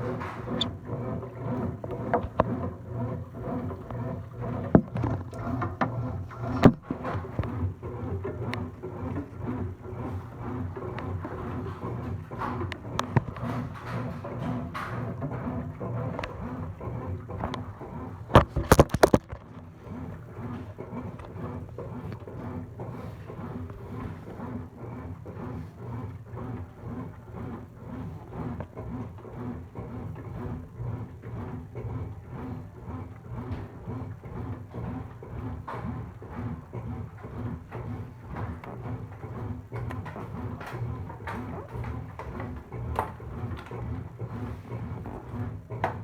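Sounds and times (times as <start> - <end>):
washing machine motor hum: 0.0 - 46.0.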